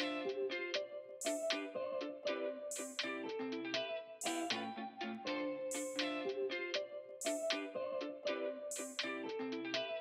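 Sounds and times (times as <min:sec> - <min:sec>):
plucked guitar-like notes: 0:00.0 - 0:10.0.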